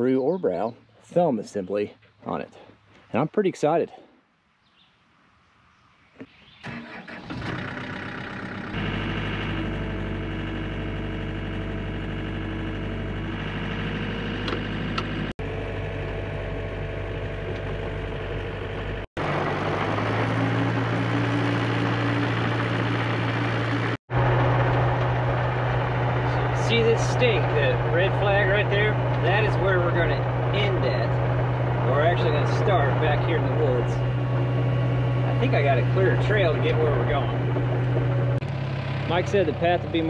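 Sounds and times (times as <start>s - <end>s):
diesel engine starting and running: 6.2s - 40.0s.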